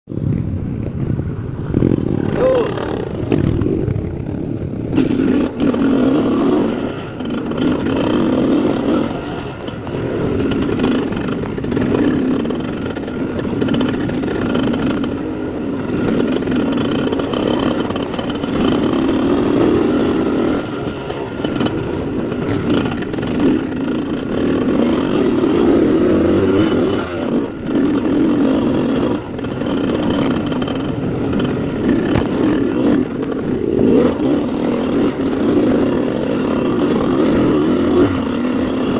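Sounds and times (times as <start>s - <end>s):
dirt bike engine revving: 1.4s - 38.9s.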